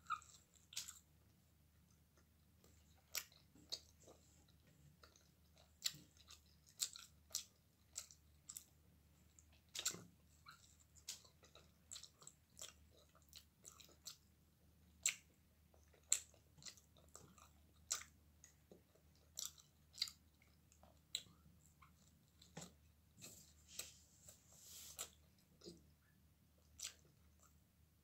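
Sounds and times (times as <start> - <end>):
chewing with mouth closed: 0.0 - 1.1, 2.2 - 14.3, 14.9 - 24.0, 25.0 - 27.6.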